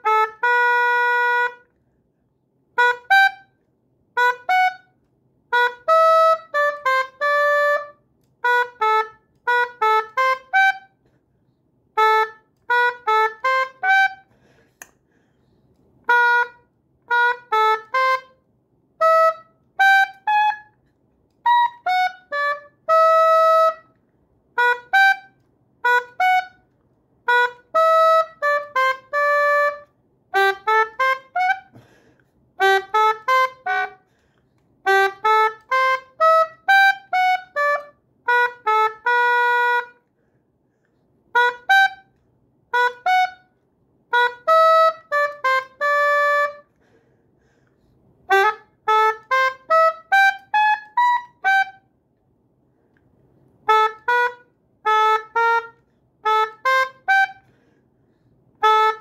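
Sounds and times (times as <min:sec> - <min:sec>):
woodwind playing a tune: 0:00.0 - 0:01.8, 0:02.7 - 0:11.2, 0:11.8 - 0:14.9, 0:16.0 - 0:34.2, 0:34.8 - 0:40.1, 0:41.3 - 0:46.9, 0:48.2 - 0:52.0, 0:53.6 - 0:57.8, 0:58.6 - 0:59.0.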